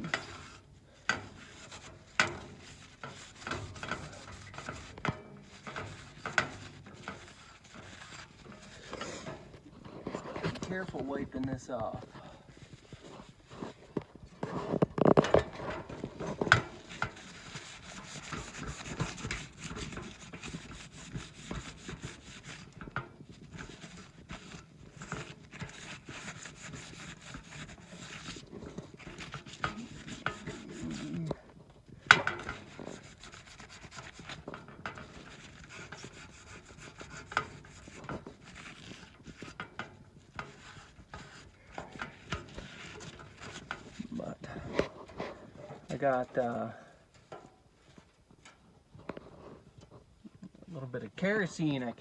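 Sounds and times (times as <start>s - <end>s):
handling clatter: 0.0s - 50.7s
cloth rubbing on metal: 0.0s - 52.0s.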